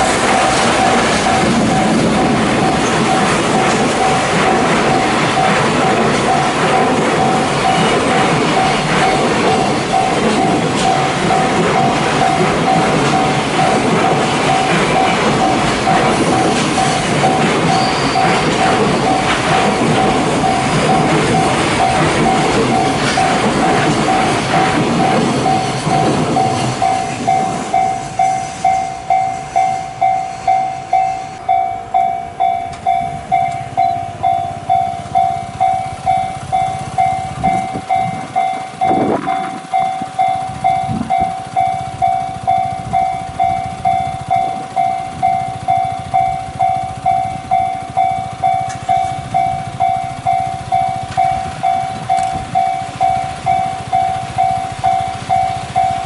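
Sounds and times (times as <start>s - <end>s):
level-crossing bell ringing: 0.0s - 56.0s
passing train rumble: 0.0s - 56.0s.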